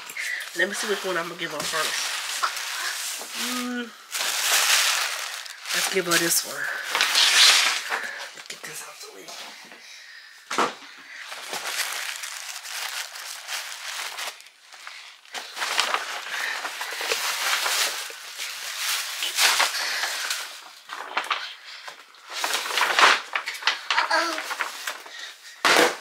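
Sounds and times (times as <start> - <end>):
tissue paper and foil bag rustling: 0.0 - 26.0.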